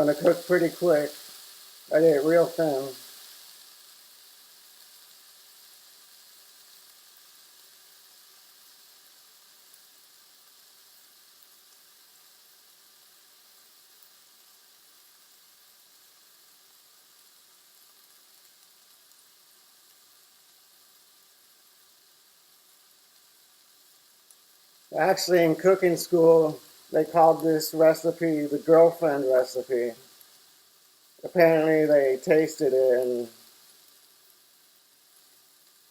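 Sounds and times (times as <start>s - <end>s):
beef sizzling in a hot pan: 0.0s - 35.9s.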